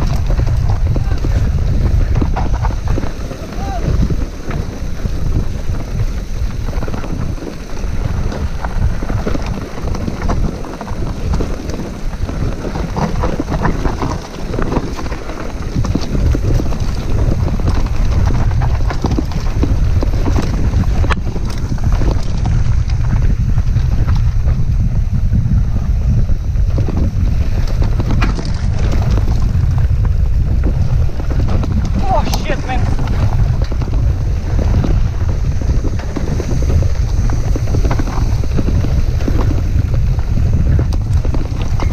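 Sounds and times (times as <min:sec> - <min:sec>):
bike clattering over bumps: 0:00.0 - 0:41.9
wind noise on microphone: 0:00.0 - 0:41.9.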